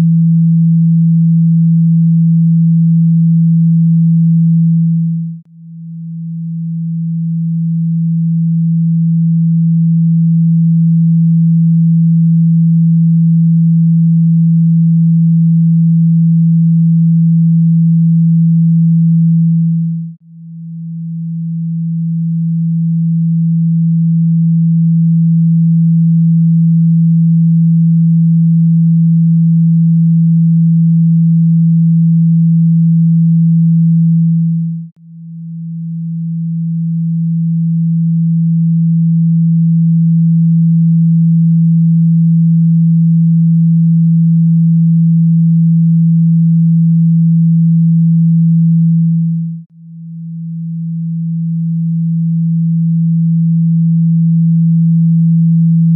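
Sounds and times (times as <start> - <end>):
low pure tone: 0.0 - 55.9.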